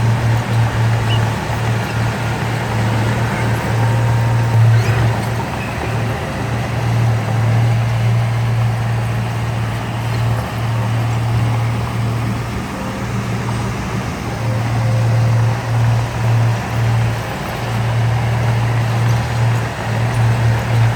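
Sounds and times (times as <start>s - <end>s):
heavy machinery diesel engine: 0.0s - 20.9s.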